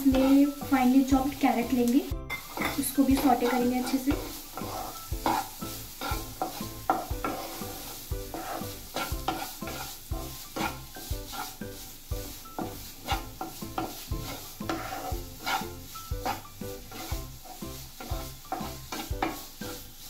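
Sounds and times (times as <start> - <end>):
spatula scraping frying pan: 0.0 - 20.0
vegetables sizzling: 0.0 - 20.0.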